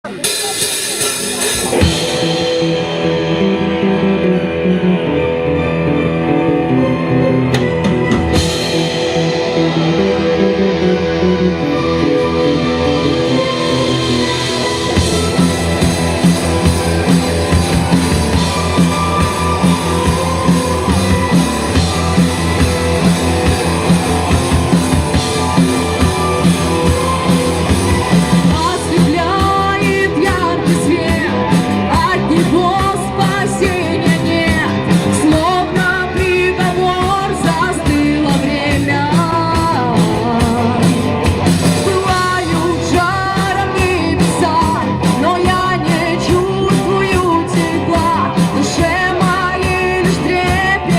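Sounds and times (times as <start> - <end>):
person singing: 0.0 - 50.9
rock band playing: 0.0 - 50.9.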